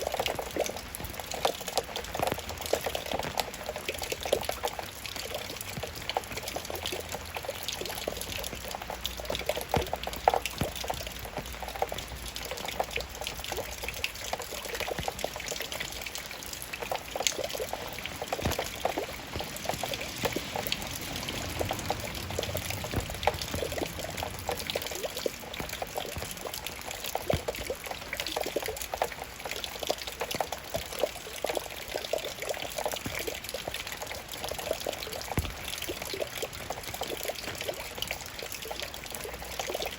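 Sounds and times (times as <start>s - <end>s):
raindrops falling: 0.0s - 39.9s
trickling water: 0.0s - 39.9s.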